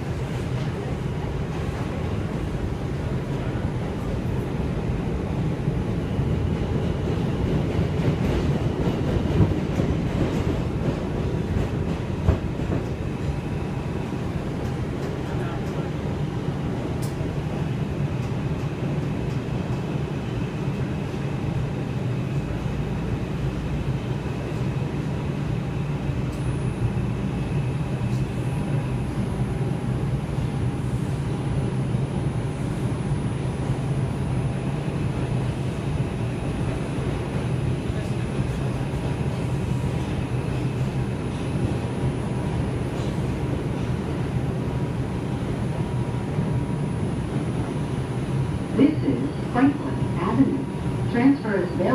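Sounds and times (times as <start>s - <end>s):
subway wheels rumbling on rail: 0.0s - 51.9s.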